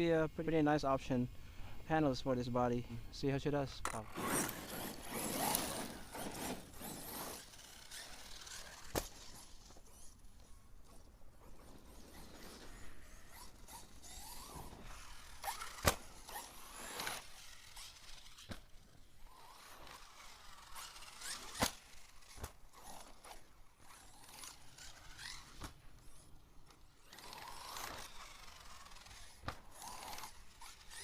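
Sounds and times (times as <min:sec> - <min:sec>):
electric motor whining: 0:03.9 - 0:31.0
crunchy clicking drivetrain: 0:04.0 - 0:10.1, 0:11.4 - 0:31.0.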